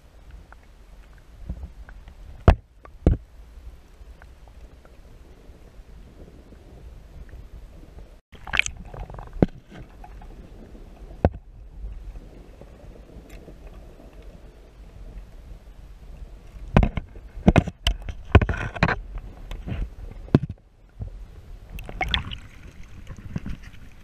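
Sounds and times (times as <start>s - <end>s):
muffled underwater water rumble: 0.0s - 24.0s.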